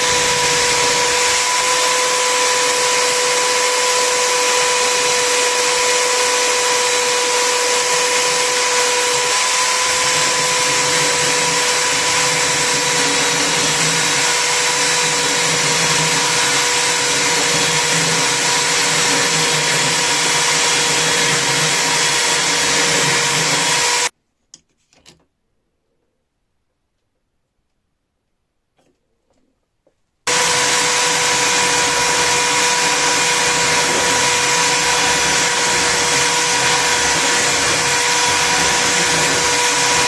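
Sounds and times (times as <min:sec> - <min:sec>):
power tool motor whining: 0:00.0 - 0:24.1, 0:30.3 - 0:40.0.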